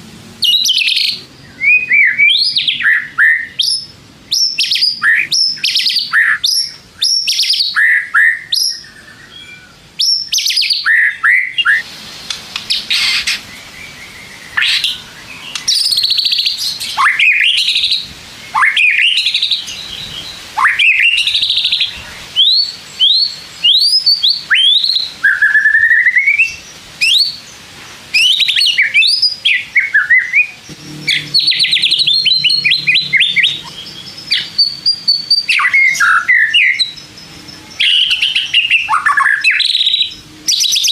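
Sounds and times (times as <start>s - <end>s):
songbird whistling and trilling: 0.4s - 11.8s, 12.5s - 27.4s, 28.1s - 40.9s.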